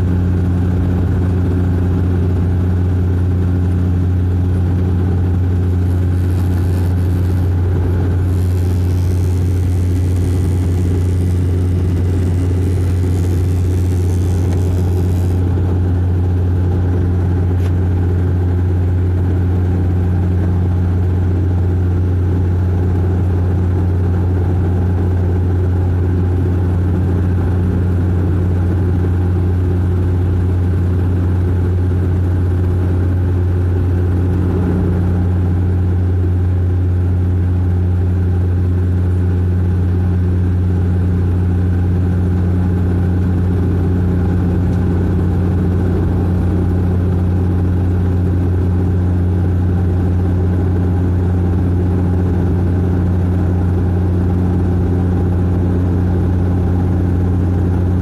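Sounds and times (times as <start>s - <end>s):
turboprop engine drone in cabin: 0.0s - 58.0s.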